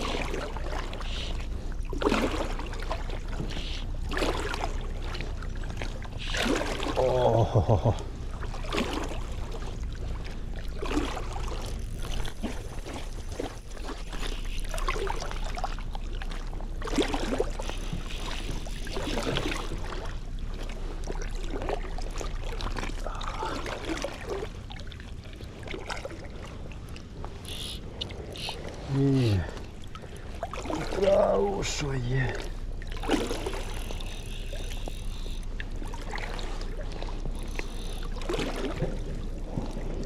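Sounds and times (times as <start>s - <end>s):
steady low rumble: 0.0s - 40.0s
water splashing and lapping: 0.0s - 40.0s.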